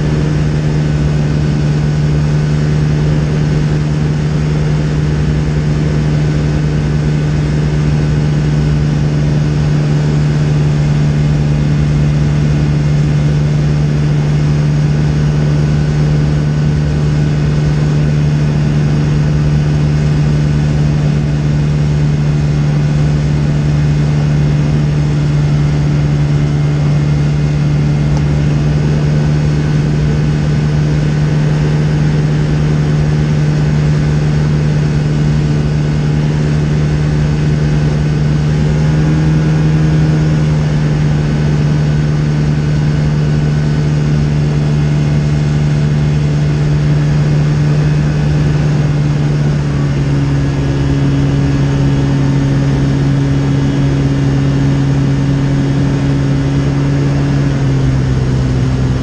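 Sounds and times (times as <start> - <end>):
microlight engine and propeller droning: 0.0 - 59.0.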